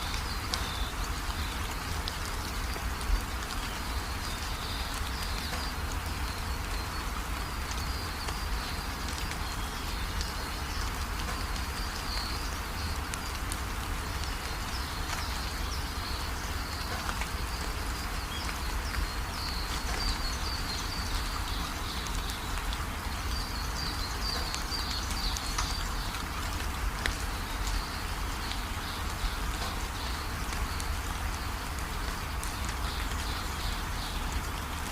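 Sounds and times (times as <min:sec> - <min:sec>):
raindrops ticking on a surface: 0:00.0 - 0:34.9
steady rain: 0:00.0 - 0:34.9.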